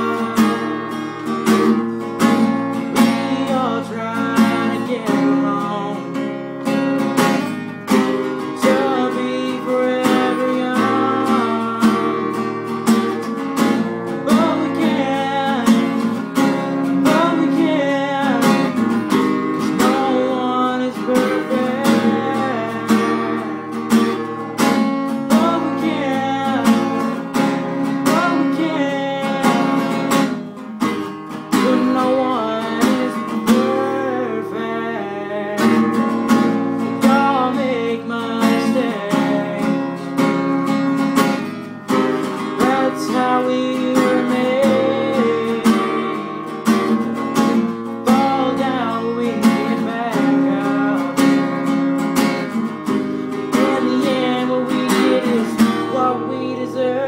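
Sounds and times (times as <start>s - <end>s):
acoustic guitar strumming: 0.0s - 57.0s
person singing: 0.0s - 57.0s.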